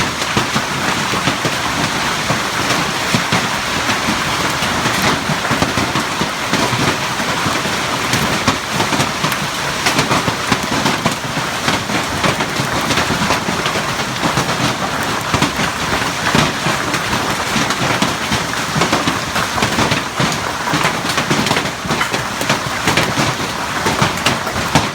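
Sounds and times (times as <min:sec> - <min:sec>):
hail and rain pelting: 0:00.0 - 0:24.9.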